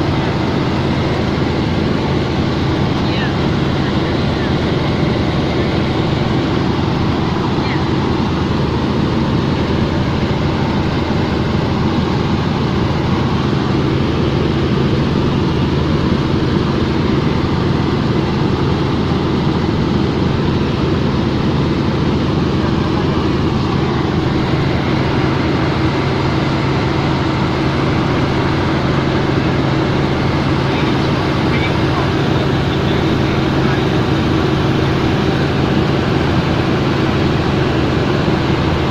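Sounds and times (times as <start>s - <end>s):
helicopter drone: 0.0s - 38.9s.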